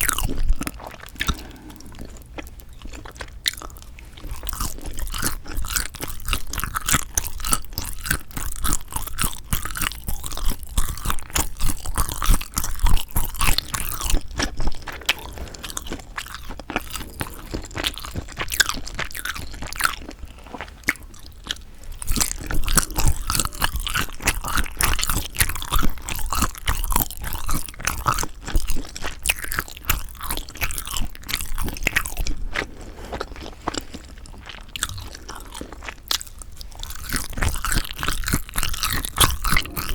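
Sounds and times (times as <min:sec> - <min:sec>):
close-miked chewing and biting: 0:00.0 - 0:39.9.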